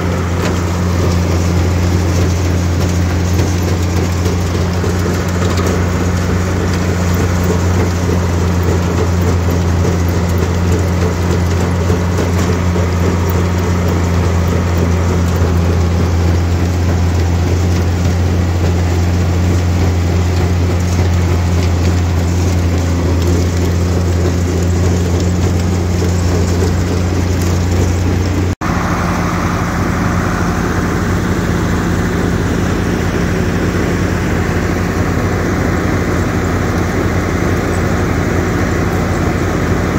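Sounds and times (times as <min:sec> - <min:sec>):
machine drone: 0:00.0 - 0:39.9
rough machine noise: 0:00.0 - 0:39.9.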